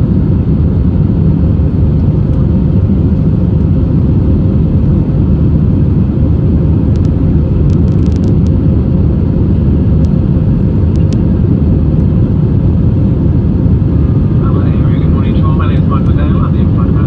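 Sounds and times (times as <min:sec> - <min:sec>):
engine and airflow rumble: 0:00.0 - 0:17.0
faint steady hum: 0:00.0 - 0:17.0.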